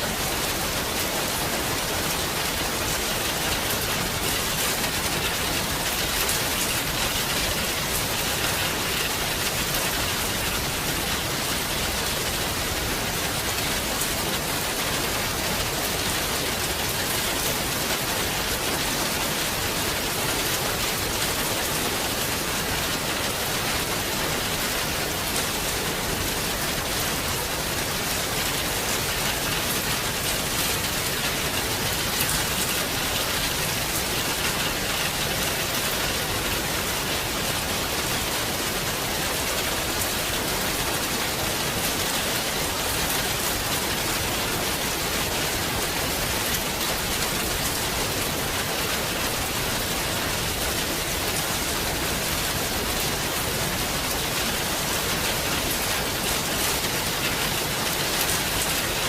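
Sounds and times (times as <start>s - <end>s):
heavy rain downpour: 0.0s - 59.0s
raindrops striking close by: 0.0s - 59.0s.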